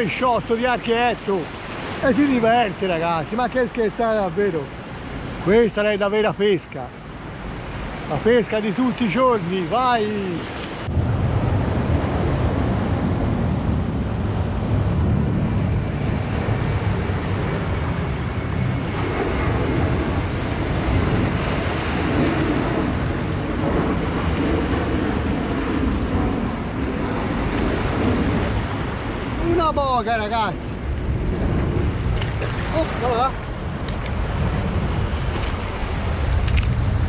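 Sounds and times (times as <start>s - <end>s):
surf breaking over rocks: 0.0s - 37.0s
wind buffeting microphone: 0.0s - 37.0s.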